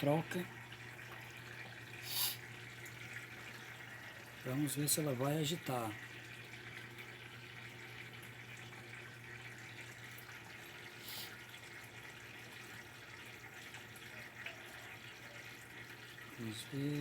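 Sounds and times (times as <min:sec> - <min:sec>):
water running into tub: 0:00.0 - 0:17.0.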